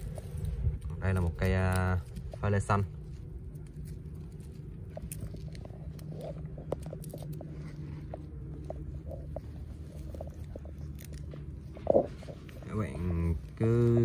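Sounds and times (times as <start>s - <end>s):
dry soil crumbling and crackling: 0.0s - 14.0s
steady low hum: 0.0s - 14.0s.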